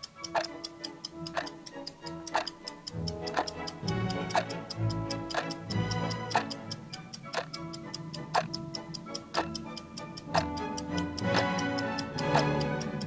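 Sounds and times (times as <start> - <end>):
background music: 0.0 - 13.0
ticking clock sound effect: 0.0 - 13.0.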